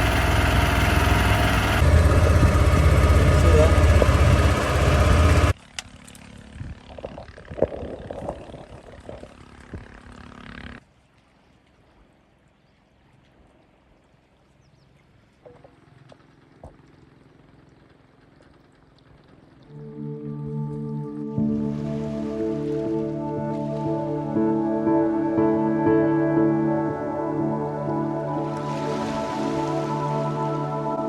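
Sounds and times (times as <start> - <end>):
motorboat engine running: 0.0 - 10.9, 13.6 - 31.0.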